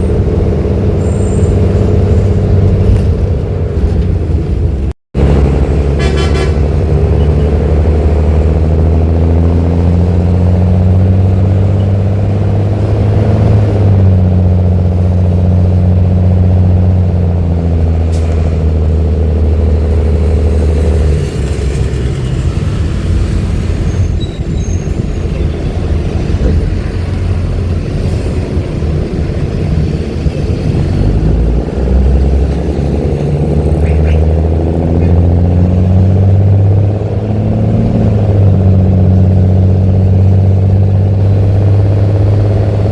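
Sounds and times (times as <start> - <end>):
diesel bus engine running: 0.0 - 42.9.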